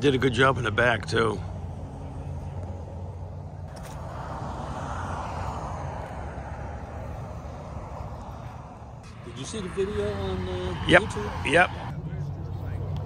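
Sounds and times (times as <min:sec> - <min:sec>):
low traffic hum: 0:00.0 - 0:13.0
vehicle passing: 0:00.0 - 0:13.0.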